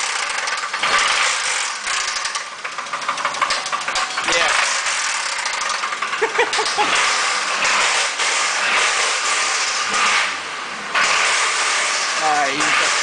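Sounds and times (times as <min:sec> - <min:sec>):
engine with rapid knocking: 0:00.0 - 0:13.0.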